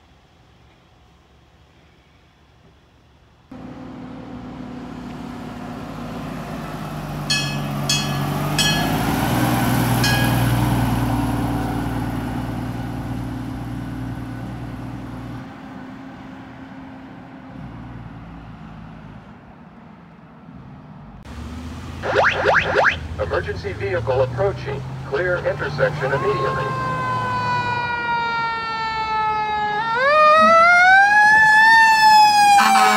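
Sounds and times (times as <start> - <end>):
fire engine driving past: 3.2 - 32.9.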